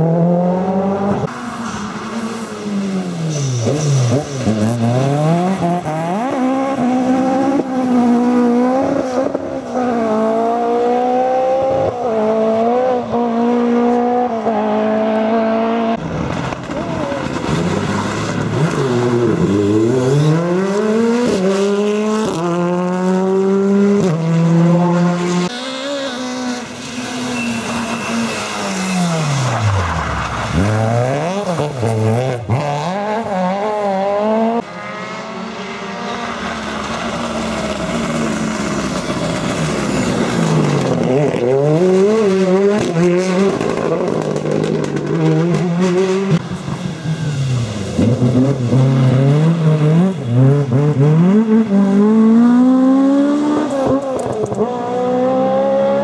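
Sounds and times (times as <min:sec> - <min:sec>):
rally cars racing past: 0:00.0 - 0:56.0.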